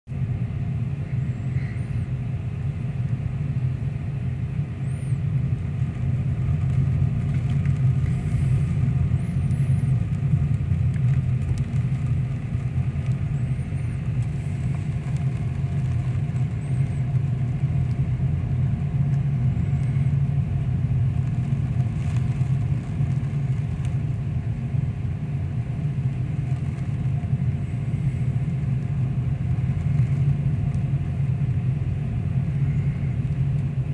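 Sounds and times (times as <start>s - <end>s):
faint high wind whistles: 0.1s - 7.2s, 7.8s - 22.0s, 22.6s - 33.9s
storm at sea rumble: 0.1s - 33.9s.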